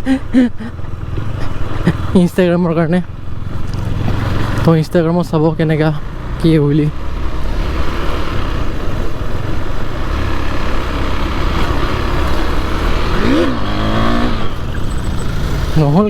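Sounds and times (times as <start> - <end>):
motorcycle accelerating hard: 0.0 - 16.0.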